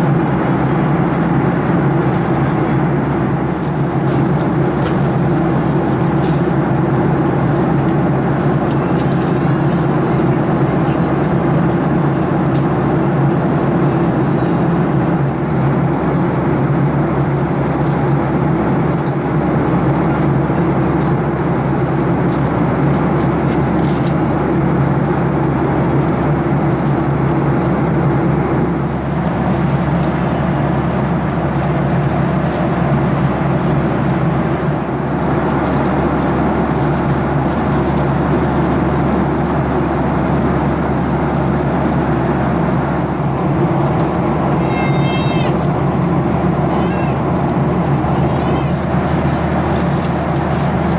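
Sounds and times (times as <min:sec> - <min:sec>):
aircraft engines droning: 0:00.0 - 0:50.9.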